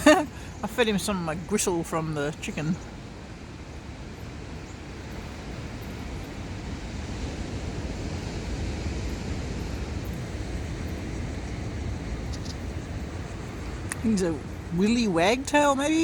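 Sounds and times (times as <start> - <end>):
surf washing on beach: 0.0 - 16.0
wind rumbling on microphone: 0.0 - 16.0.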